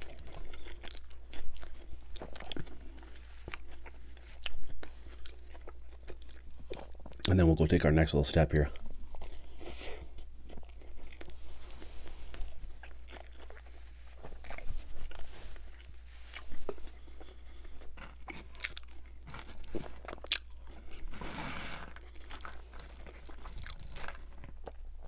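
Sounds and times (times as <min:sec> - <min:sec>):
chewing crispy fried chicken: 0:00.0 - 0:08.0, 0:08.6 - 0:25.0.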